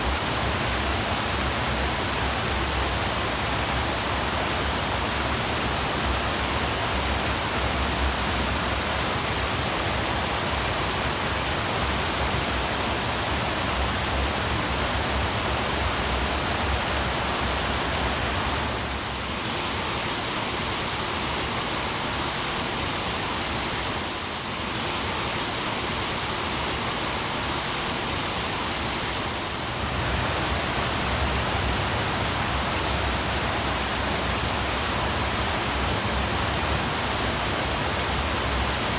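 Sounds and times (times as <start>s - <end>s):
waterfall roaring: 0.0s - 22.0s, 22.9s - 38.9s.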